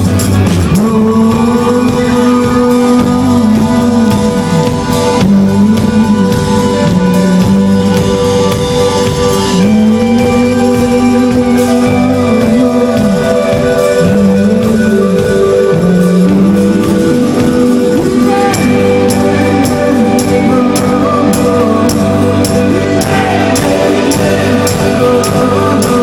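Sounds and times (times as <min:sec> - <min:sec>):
rock band playing live: 0:00.0 - 0:26.0
sliding melody line: 0:00.0 - 0:26.0.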